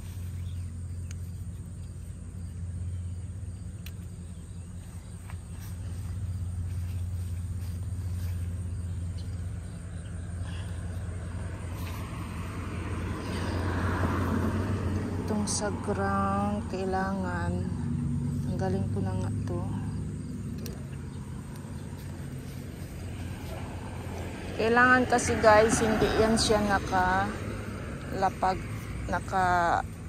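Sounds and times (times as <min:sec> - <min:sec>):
background traffic drone: 0:00.0 - 0:30.0
vehicle passing: 0:00.0 - 0:30.0.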